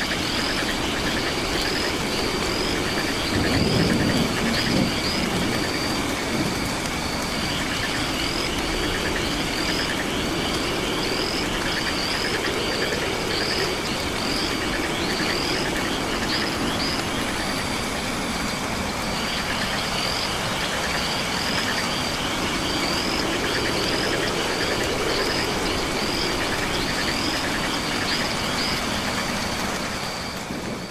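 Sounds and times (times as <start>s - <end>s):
frogs and insects chorus: 0.0s - 30.9s
steady hiss: 0.0s - 30.9s.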